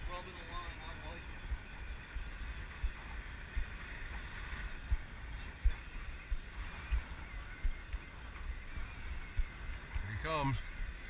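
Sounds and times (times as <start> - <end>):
water noise: 0.0 - 11.0
wind: 0.0 - 11.0
wind buffeting thumps: 0.0 - 11.0.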